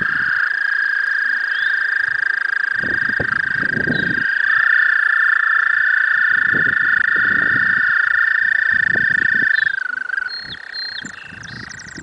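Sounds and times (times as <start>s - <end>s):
toad trilling loudly: 0.0s - 11.5s
chorus of toads trilling: 0.0s - 12.0s.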